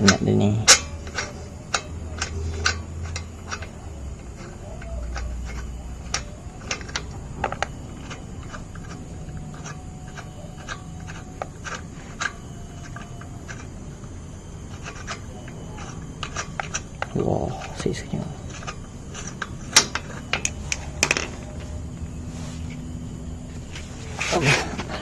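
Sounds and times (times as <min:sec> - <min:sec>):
wheel brace clicking on nuts: 0:00.0 - 0:21.5.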